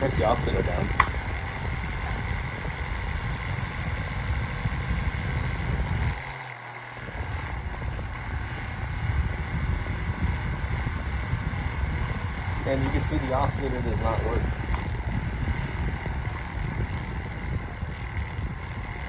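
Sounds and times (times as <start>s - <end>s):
table fan running: 0.0s - 19.0s.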